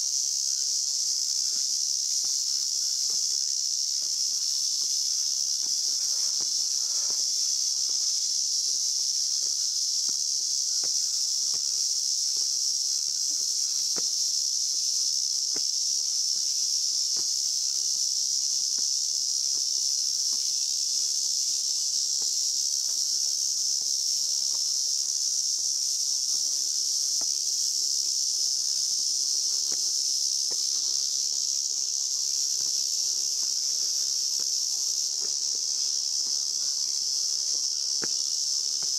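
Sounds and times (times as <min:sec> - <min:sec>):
insects chorus drone: 0:00.0 - 0:38.9
footsteps on stone steps: 0:01.4 - 0:17.8, 0:18.7 - 0:20.6, 0:25.6 - 0:38.9.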